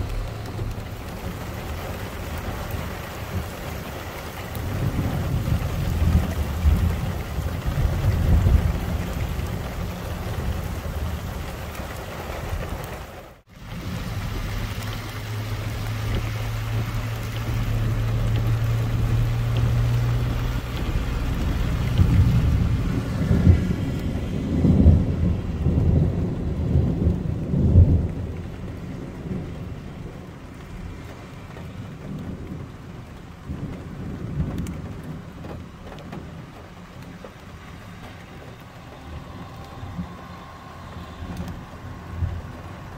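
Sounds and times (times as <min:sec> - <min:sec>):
rolling thunder rumbles: 0:00.0 - 0:42.9
steady rain: 0:00.0 - 0:42.9.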